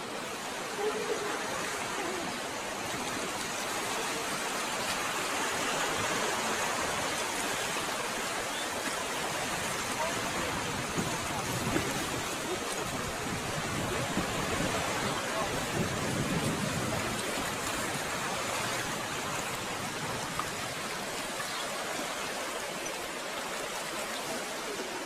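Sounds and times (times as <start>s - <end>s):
distant rushing water: 0.0s - 25.0s.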